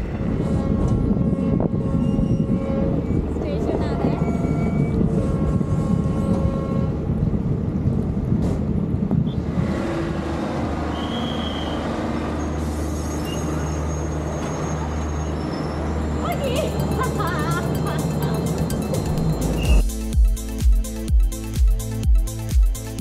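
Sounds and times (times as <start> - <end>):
train wheels rumbling on rail: 0.0 - 19.8.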